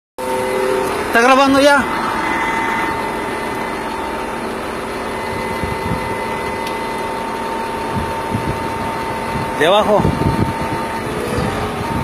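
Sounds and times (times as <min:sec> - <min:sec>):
diesel engine idling: 0:00.2 - 0:12.0
steady whine: 0:00.2 - 0:12.0.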